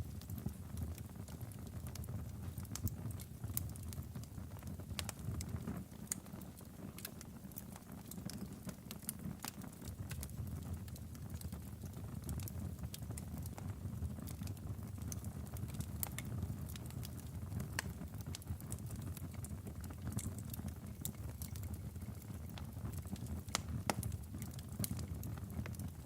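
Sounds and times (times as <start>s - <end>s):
low rumble of flames: 0.0s - 26.0s
wood crackling and popping: 0.0s - 26.0s.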